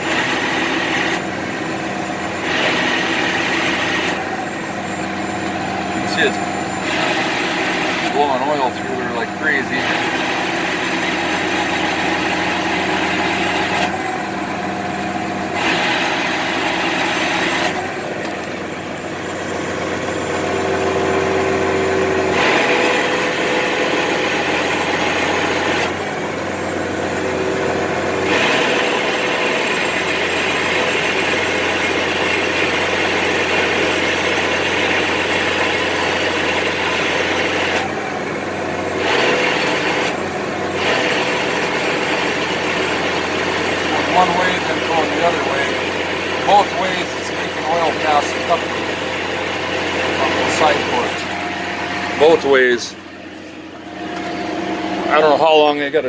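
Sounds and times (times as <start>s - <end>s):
hydraulic oil flowing: 0.0s - 56.0s
tractor diesel engine running: 0.0s - 56.0s.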